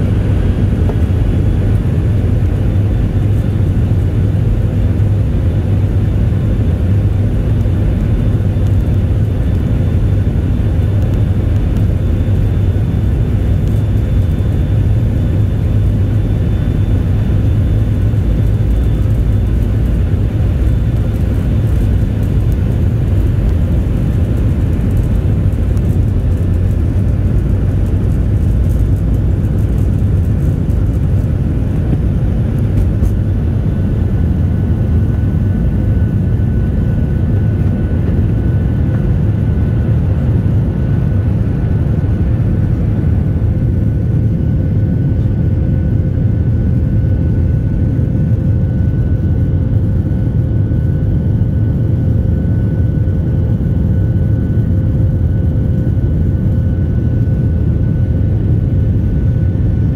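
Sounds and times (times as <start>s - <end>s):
faint jet engine whine: 0.0s - 59.9s
jet cabin low rumble: 0.0s - 59.9s.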